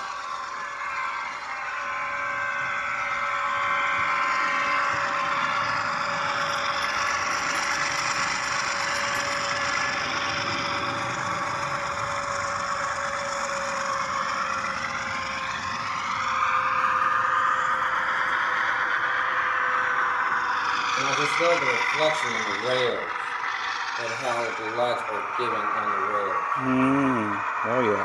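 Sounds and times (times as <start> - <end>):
diesel engine drone: 0.0 - 28.0
whine rising and falling: 0.0 - 28.0.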